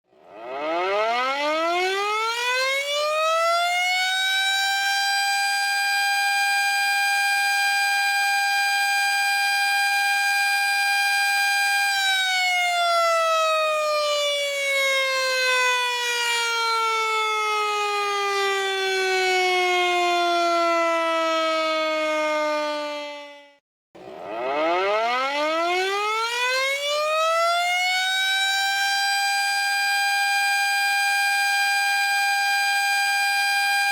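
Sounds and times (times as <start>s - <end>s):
air-raid siren wailing: 0.1s - 33.9s.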